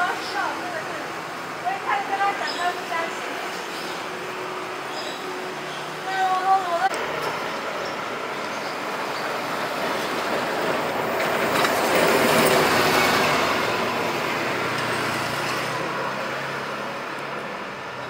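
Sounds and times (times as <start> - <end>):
bus driving past: 0.0 - 18.0.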